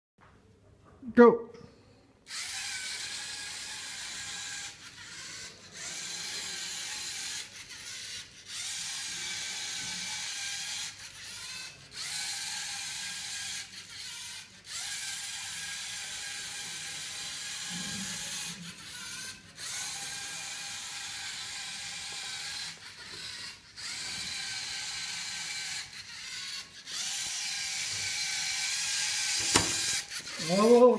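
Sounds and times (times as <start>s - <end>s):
robot motors whirring: 2.3s - 30.9s.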